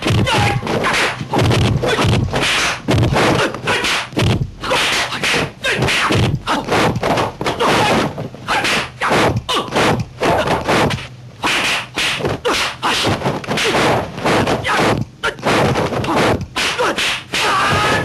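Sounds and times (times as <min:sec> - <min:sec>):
punch and block hits: 0:00.0 - 0:18.0.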